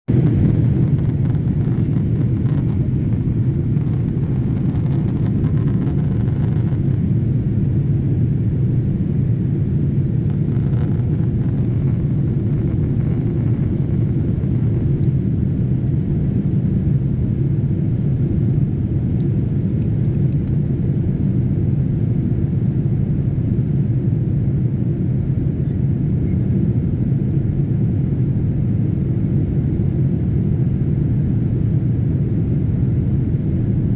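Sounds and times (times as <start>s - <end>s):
airliner cabin rumble: 0.1s - 33.9s.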